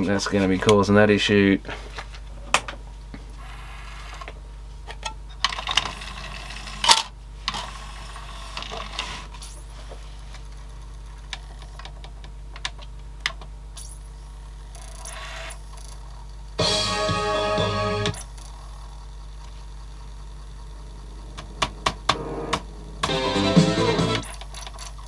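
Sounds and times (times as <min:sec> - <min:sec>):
faint whir of disc spinning: 0:00.0 - 0:25.0.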